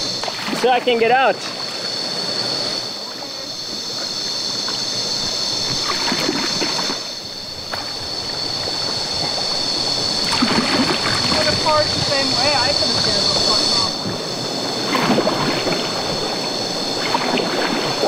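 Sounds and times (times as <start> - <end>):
water sloshing around a kayak: 0.0 - 18.0
high-pitched drone: 2.6 - 18.0.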